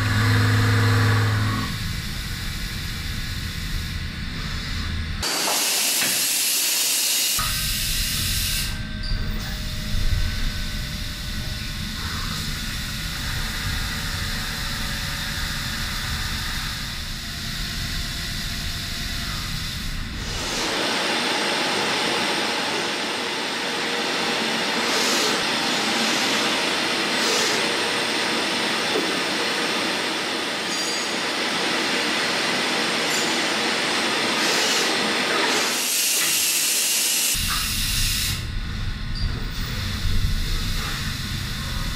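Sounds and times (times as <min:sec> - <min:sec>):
low rumbling machine noise: 0:00.0 - 0:05.3, 0:07.4 - 0:35.6, 0:37.4 - 0:41.9
faint steady machine whines: 0:00.0 - 0:41.9.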